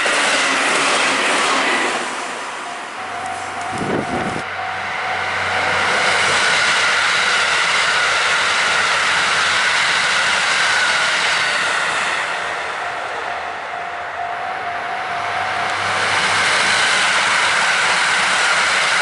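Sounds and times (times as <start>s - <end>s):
electric train passing: 0.0s - 19.0s
train whine: 0.0s - 19.0s
level-crossing warning bell: 2.1s - 19.0s.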